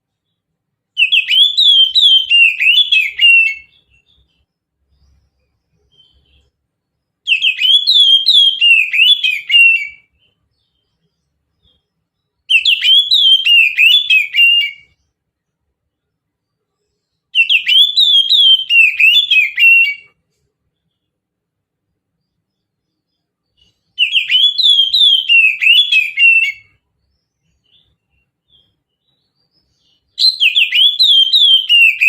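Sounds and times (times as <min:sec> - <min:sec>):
bird singing whistled notes: 0:00.2 - 0:15.2, 0:16.0 - 0:20.2, 0:22.2 - 0:32.0.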